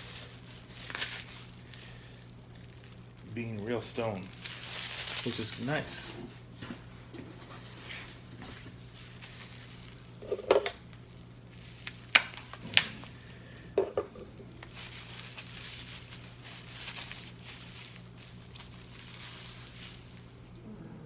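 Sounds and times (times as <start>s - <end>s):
rustling: 0.0s - 13.3s, 14.4s - 20.6s.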